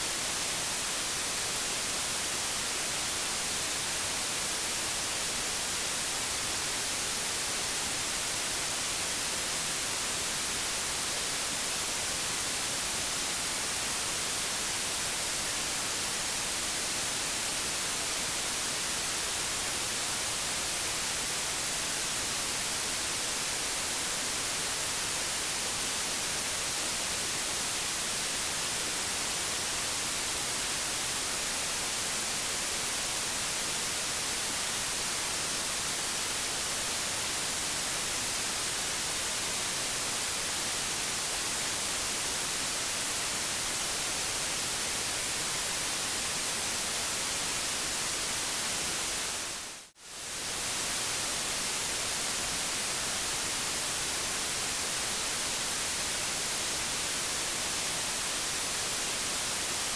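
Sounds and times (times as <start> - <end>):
television static hiss: 0.0 - 59.9.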